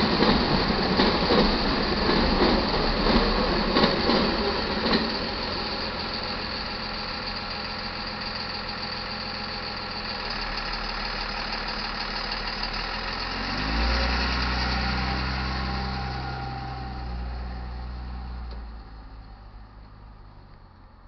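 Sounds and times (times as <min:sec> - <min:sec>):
freight train rumbling: 0:00.0 - 0:20.5.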